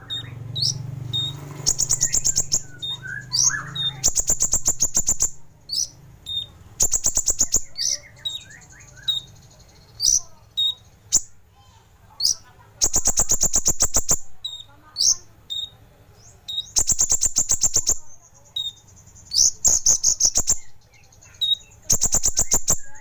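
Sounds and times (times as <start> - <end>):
sunbird clicking trills: 0.0 - 11.4, 12.2 - 23.0
upward-swept bird chirps: 0.0 - 23.0.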